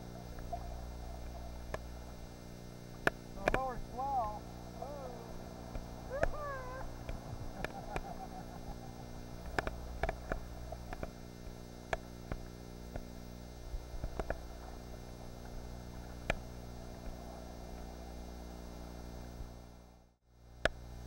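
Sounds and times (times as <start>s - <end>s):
choppy water around kayak: 0.0s - 19.9s
steady electrical hum: 0.0s - 21.0s.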